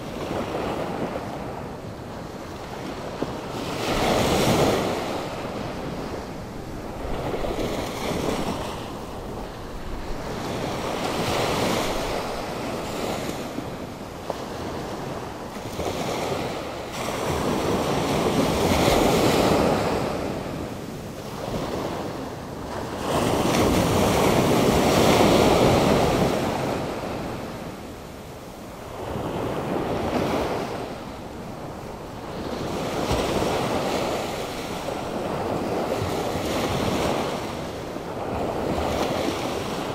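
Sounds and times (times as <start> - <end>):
surf breaking and washing ashore: 0.0 - 39.9.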